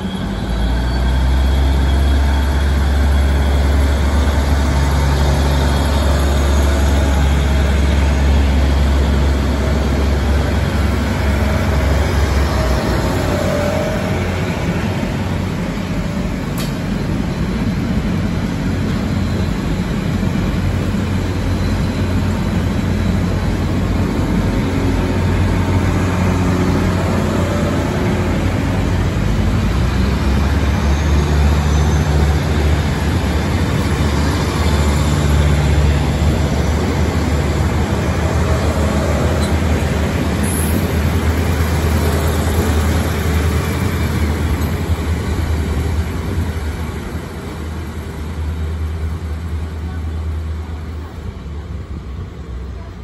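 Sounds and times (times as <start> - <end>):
diesel train engine droning: 0.0 - 53.0
passing train cars: 0.0 - 53.0.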